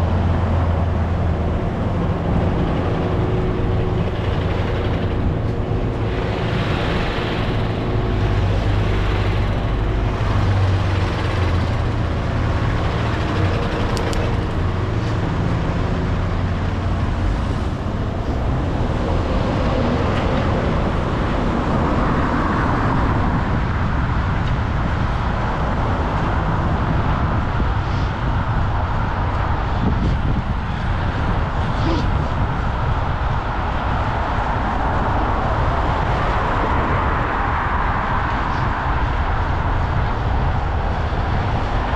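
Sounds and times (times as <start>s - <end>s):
heavy engine low hum: 0.0s - 41.9s
road traffic passing: 0.0s - 41.9s.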